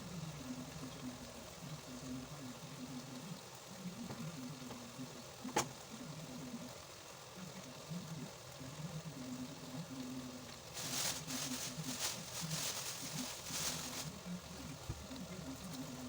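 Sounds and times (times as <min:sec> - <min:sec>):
pot hissing on stove: 0:00.0 - 0:16.0.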